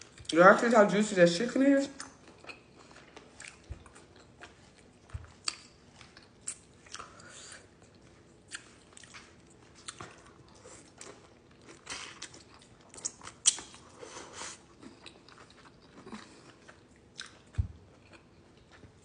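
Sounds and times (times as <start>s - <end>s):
person chewing and biting: 2.0s - 19.0s.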